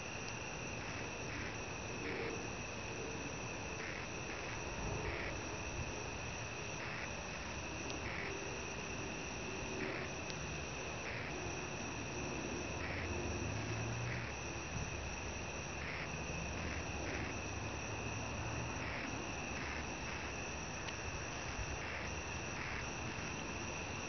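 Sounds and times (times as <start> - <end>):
insects trilling: 0.0 - 24.0
steady hiss: 0.0 - 24.0.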